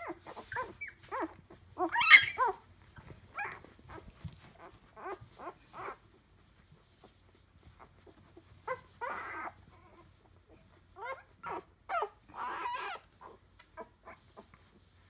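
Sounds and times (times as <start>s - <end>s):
puppies whining: 0.0s - 15.0s.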